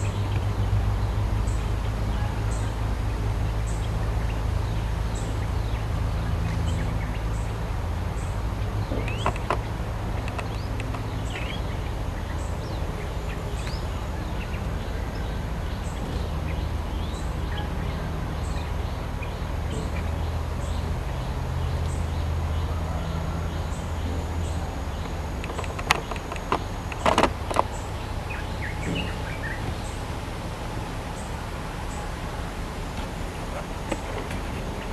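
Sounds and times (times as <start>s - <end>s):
birds chirping: 0.0s - 34.9s
steady low rumble: 0.0s - 34.9s.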